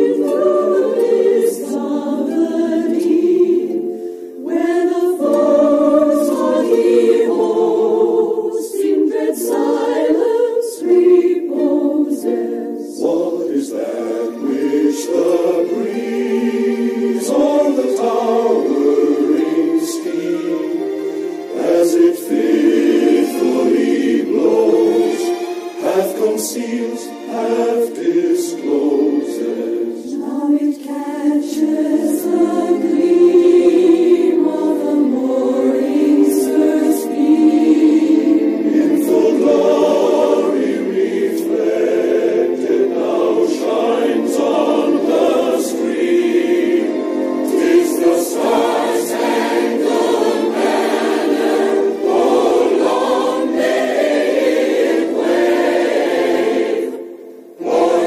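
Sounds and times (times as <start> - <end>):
choir singing slow notes: 0.0 - 58.0.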